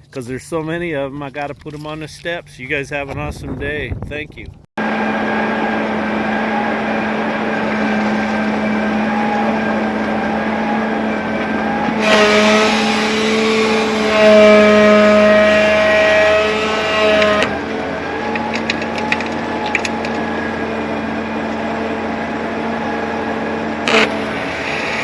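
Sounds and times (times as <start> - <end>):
diesel engine running: 4.8 - 25.0.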